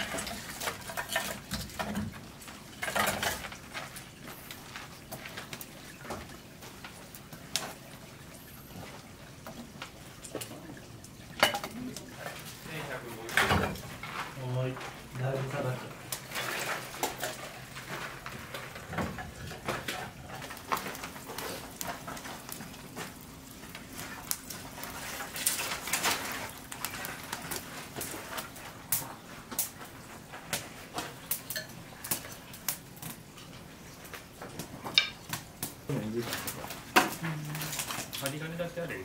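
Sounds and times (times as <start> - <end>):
firewood and bricks clattering: 0.0 - 39.0.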